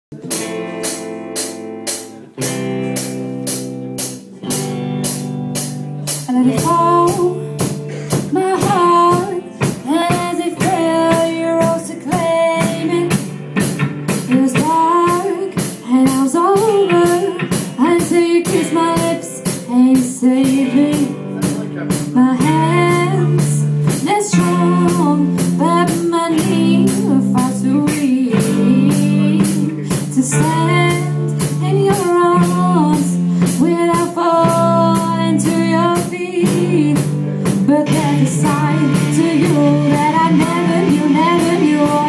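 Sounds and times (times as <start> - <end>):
pop backing track with drum beat: 0.1 - 42.0
woman singing: 6.1 - 42.0.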